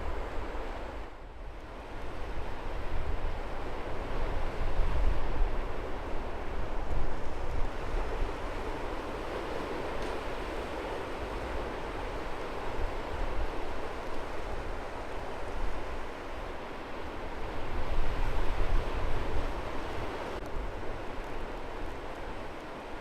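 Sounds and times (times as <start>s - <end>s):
sea waves washing on beach: 1.6s - 23.0s
wind on microphone: 1.8s - 22.9s.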